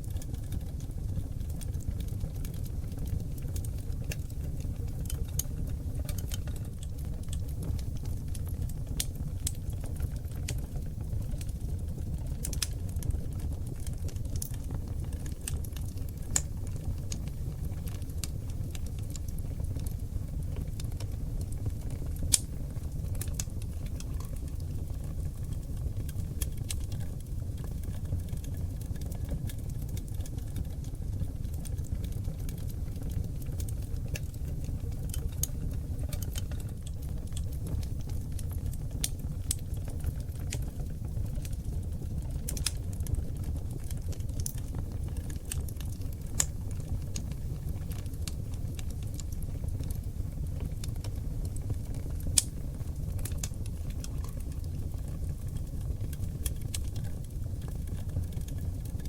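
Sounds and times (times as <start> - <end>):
fire crackles and pops: 0.0 - 59.0
low rumble of flame: 0.0 - 59.0.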